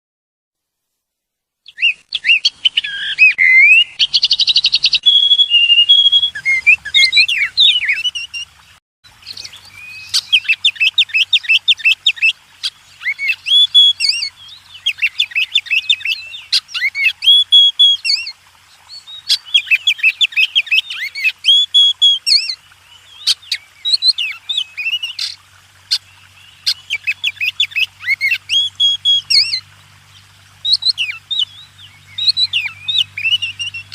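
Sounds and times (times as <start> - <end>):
songbirds singing: 1.7 - 33.9.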